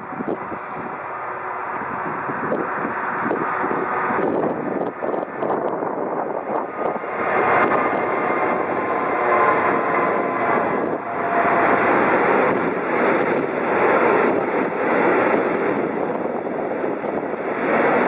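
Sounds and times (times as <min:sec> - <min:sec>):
diesel locomotive accelerating: 0:00.0 - 0:18.0.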